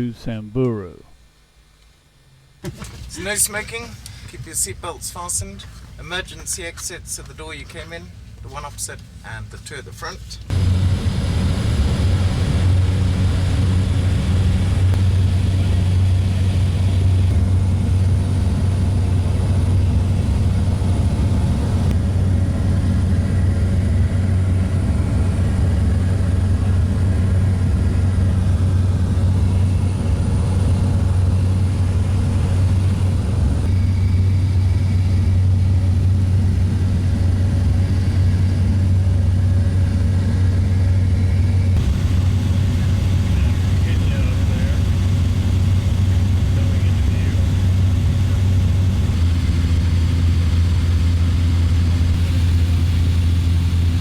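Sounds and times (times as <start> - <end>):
light aircraft engine droning: 10.4 - 54.0.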